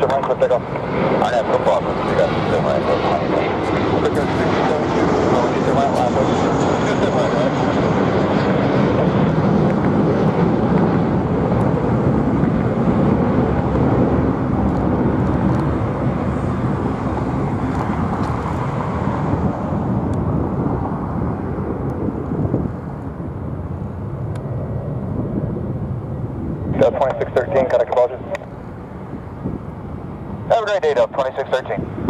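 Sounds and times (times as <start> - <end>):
jet engines roaring: 0.0 - 32.0.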